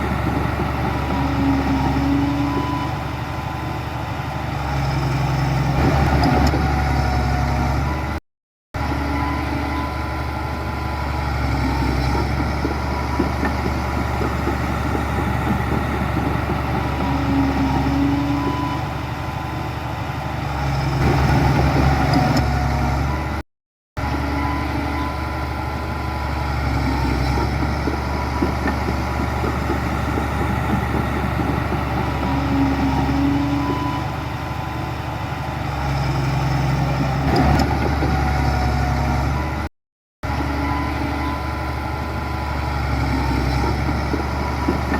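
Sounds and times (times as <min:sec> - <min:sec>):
heavy diesel engine running: 0:00.0 - 0:08.2, 0:08.8 - 0:23.4, 0:24.0 - 0:44.9.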